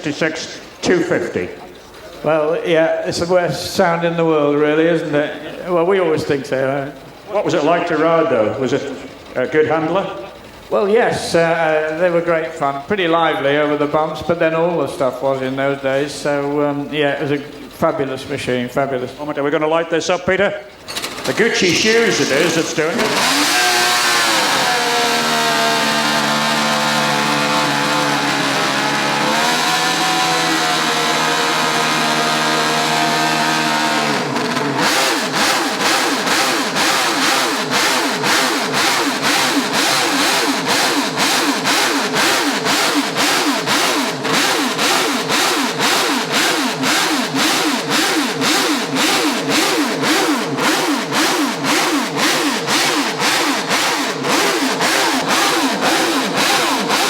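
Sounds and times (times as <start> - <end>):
racing engine revving: 0.0 - 19.6, 20.7 - 57.0.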